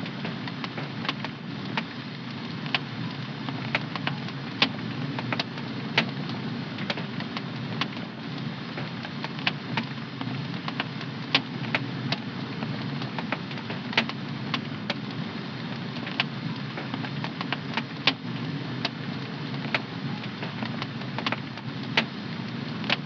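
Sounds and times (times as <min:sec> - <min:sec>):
wood fire pops and snaps: 0:00.2 - 0:01.9, 0:03.5 - 0:08.1, 0:08.7 - 0:15.2, 0:15.8 - 0:22.1.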